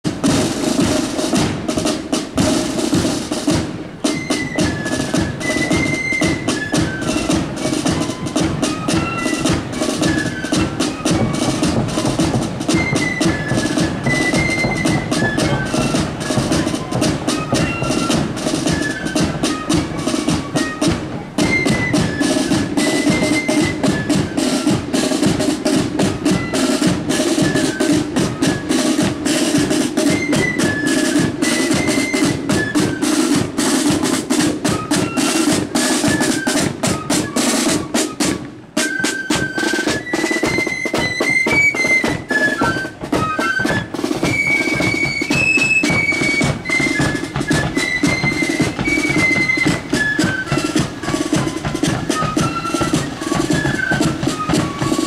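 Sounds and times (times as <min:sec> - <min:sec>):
rolling side drums: 0:00.0 - 0:55.0
flutes playing melody: 0:00.1 - 0:55.0.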